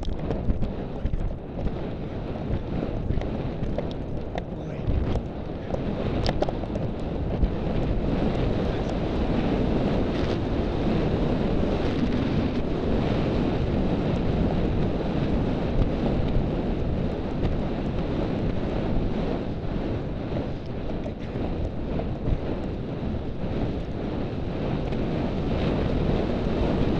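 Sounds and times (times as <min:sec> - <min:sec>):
wind noise on microphone: 0:00.0 - 0:26.9.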